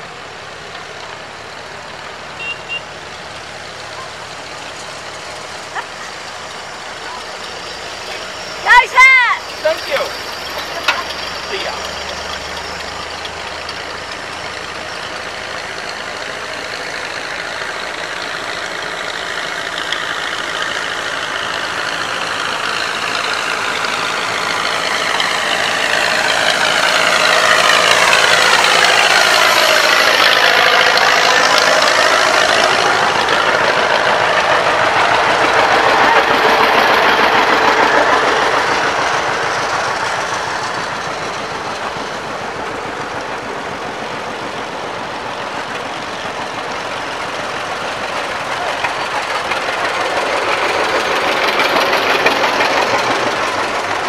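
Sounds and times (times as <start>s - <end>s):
tractor engines passing: 0.0s - 54.0s.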